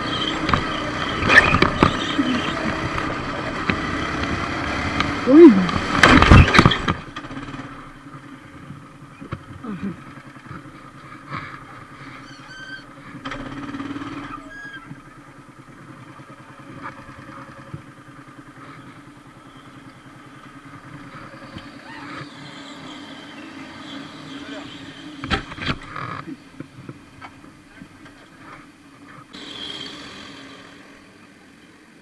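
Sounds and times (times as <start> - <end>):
motorcycle engine running: 0.0 - 31.5.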